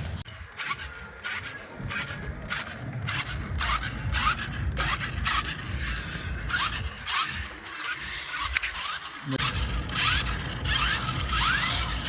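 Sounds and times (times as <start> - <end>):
toy truck scraping over ground: 0.0 - 12.0.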